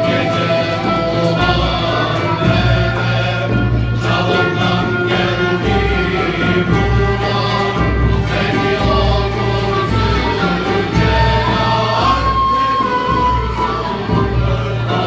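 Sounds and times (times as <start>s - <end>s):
ensemble of strings flute and drum: 0.0s - 15.0s
male choir singing: 0.0s - 15.0s.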